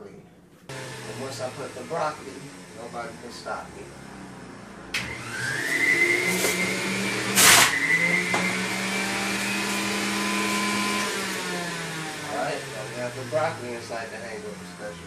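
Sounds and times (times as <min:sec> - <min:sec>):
electric juicer motor whining: 0:00.7 - 0:15.0
juicer grinding vegetables: 0:00.7 - 0:15.0.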